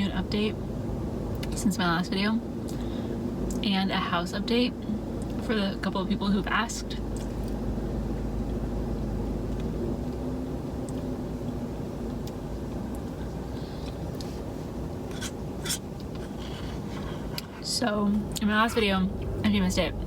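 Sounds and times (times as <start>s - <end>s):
car cabin hum: 0.0s - 20.0s.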